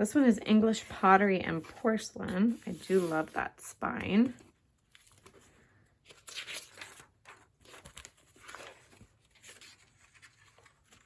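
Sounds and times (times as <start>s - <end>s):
book pages rustling: 0.6s - 11.0s.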